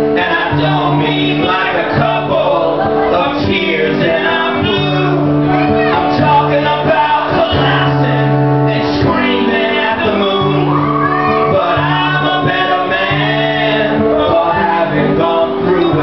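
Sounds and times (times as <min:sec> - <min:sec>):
live band music with singing: 0:00.0 - 0:16.0.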